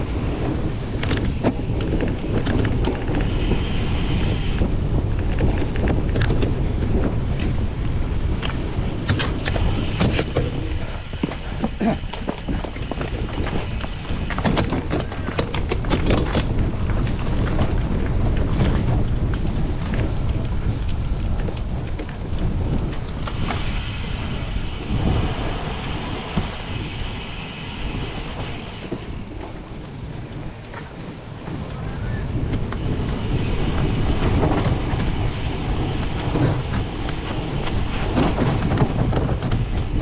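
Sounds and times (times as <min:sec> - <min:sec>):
bike rattling: 0:00.0 - 0:40.0
tyres rumbling on rough ground: 0:00.0 - 0:40.0
wind buffeting microphone: 0:00.0 - 0:40.0.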